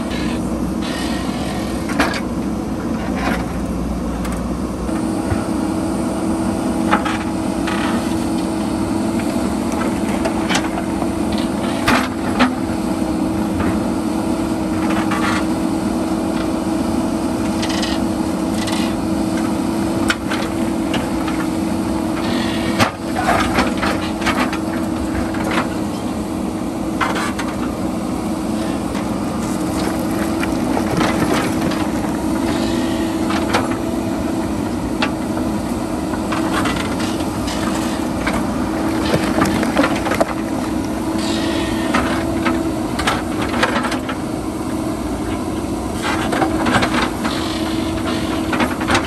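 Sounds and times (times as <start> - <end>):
diesel engine under load: 0.0 - 49.0.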